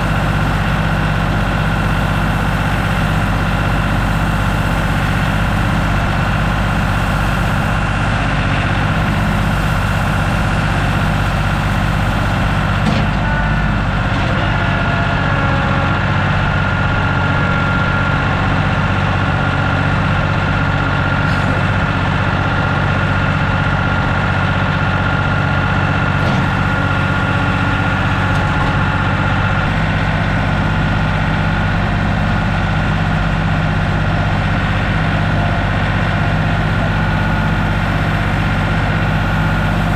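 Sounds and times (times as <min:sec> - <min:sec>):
heavy equipment engine idling: 0:00.0 - 0:39.9.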